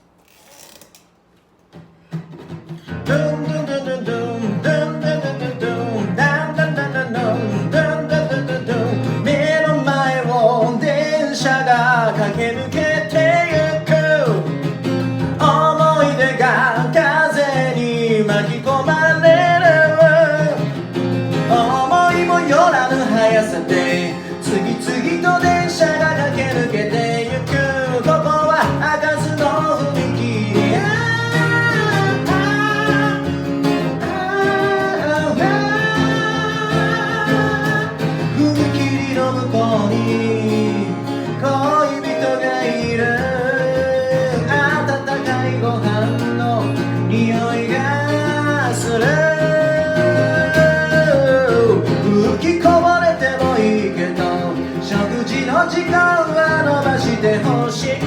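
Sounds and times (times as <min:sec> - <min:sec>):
acoustic guitar: 0:00.0 - 0:58.0
person singing: 0:02.9 - 0:14.6, 0:15.3 - 0:58.0.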